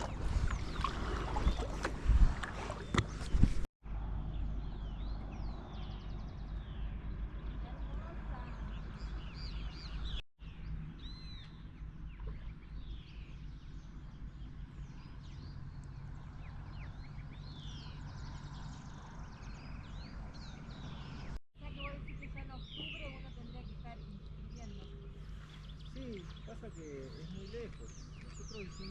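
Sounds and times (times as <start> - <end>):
wild birds chirping and whistling: 0.0 - 3.4, 4.3 - 28.9
low rumble of wind: 0.0 - 28.9.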